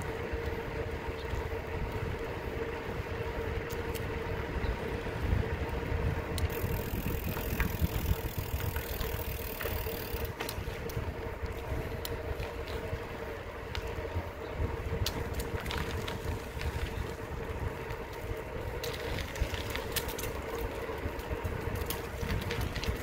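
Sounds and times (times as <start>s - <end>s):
vehicle rolling on asphalt: 0.0s - 23.0s.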